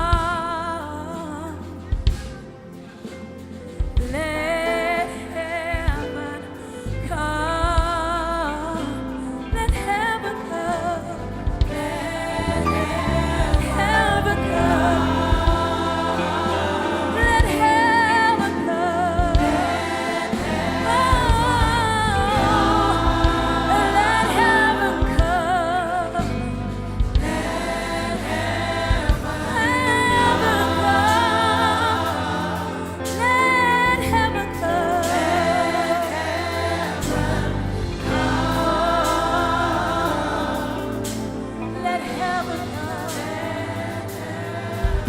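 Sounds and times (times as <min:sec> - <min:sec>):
band bass: 0:00.0 - 0:45.0
singers holding long notes: 0:00.0 - 0:45.0.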